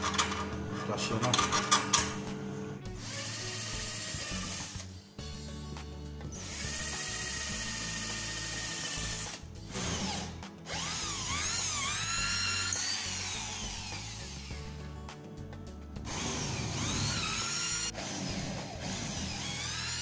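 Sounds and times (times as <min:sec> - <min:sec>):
electric drill boring: 0:00.0 - 0:05.0, 0:06.3 - 0:14.7, 0:16.1 - 0:20.0.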